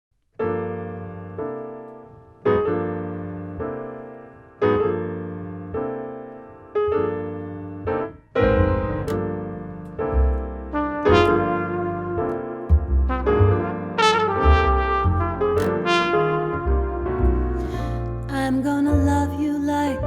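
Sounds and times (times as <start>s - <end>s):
jazz piano chords: 0.4s - 20.0s.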